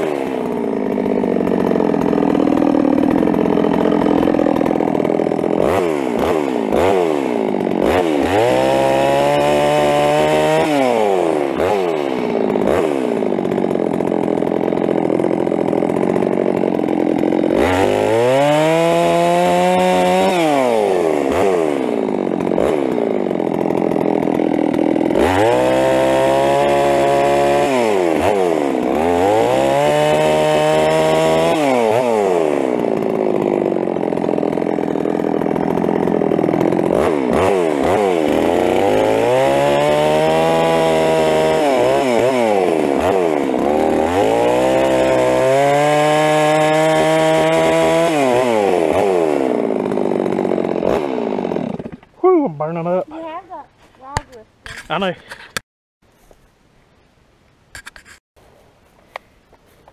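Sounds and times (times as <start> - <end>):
chainsaw revving and idling: 0.0 - 55.6.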